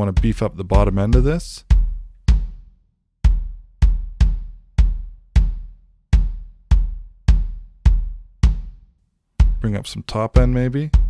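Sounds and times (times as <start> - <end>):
kick drum hits: 0.2 - 8.8, 9.4 - 9.6.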